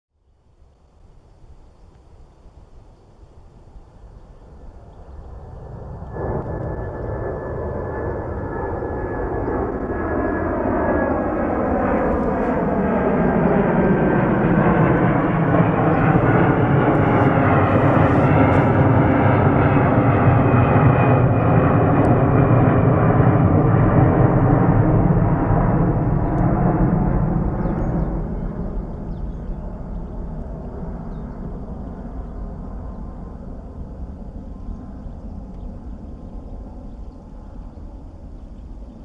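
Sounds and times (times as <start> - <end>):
jet engines at takeoff: 0.2 - 39.0.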